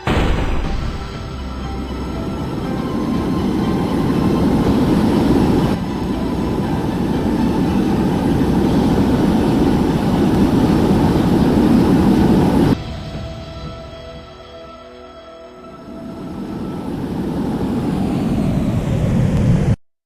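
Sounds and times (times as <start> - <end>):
large engine rumbling roar: 0.0 - 13.4, 15.9 - 19.8.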